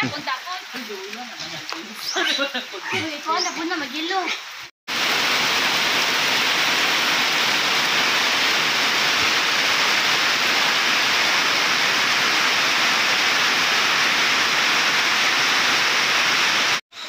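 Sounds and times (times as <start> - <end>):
heavy rain hissing: 0.0 - 16.8.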